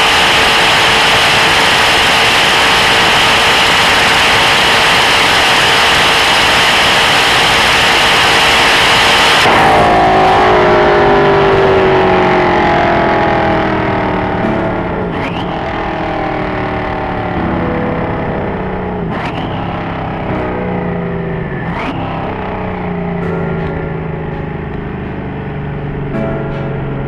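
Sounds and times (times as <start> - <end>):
loud steady roar: 0.0 - 27.0
sports car engine: 0.0 - 27.0.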